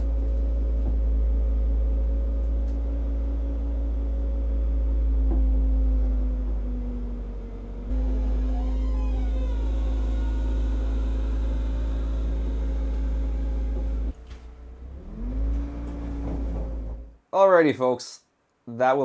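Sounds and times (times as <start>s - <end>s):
vehicle engine droning and revving: 0.0s - 17.2s.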